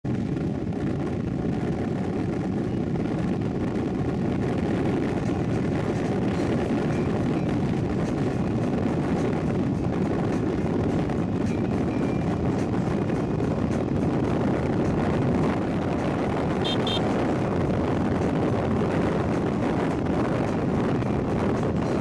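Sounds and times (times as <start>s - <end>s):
car road noise rumble: 0.0s - 22.0s.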